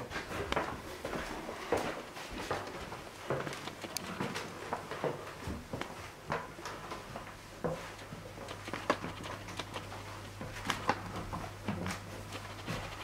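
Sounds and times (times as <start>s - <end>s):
slow footsteps: 0.0s - 13.0s
steady low hum: 0.0s - 13.0s.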